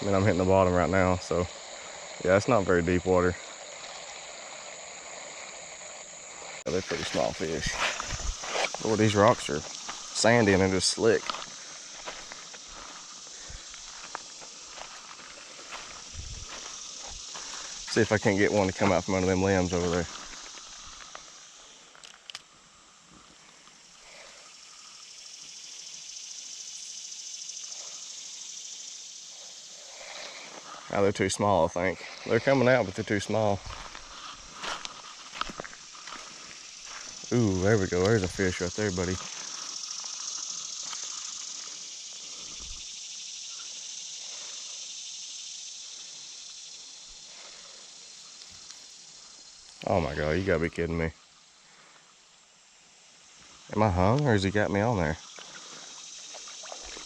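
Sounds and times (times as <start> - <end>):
insect chorus buzzing: 0.0 - 57.0.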